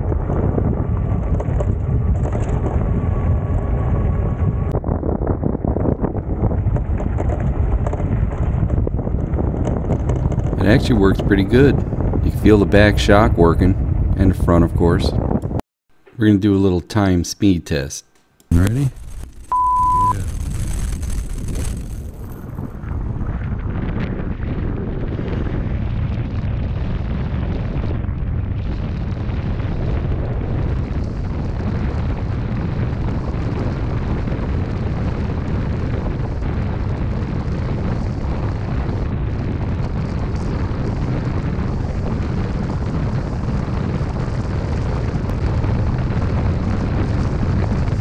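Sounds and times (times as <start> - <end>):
wind buffeting microphone: 0.0 - 15.6, 20.1 - 48.0.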